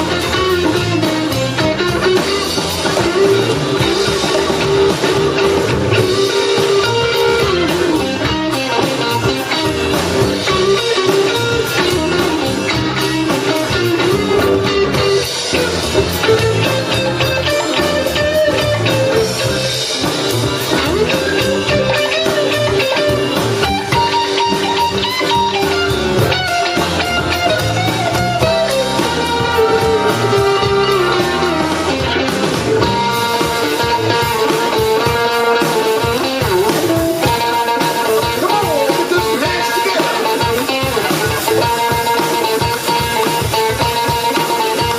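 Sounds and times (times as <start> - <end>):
blues band playing: 0.0 - 44.9
electric guitar bent notes: 0.0 - 44.9.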